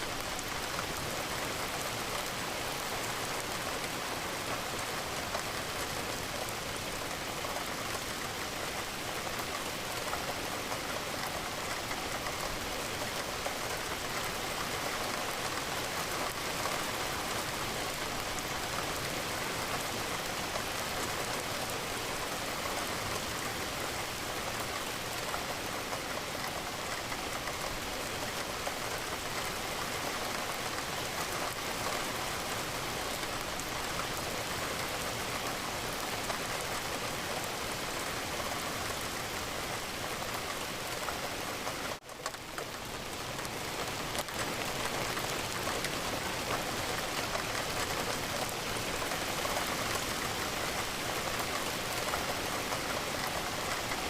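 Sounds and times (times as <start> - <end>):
rain against a window: 0.0 - 54.0.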